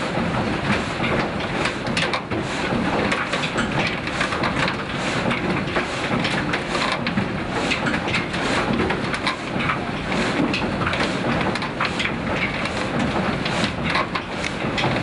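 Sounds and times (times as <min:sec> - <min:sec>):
mill gearing clattering: 0:00.0 - 0:15.0.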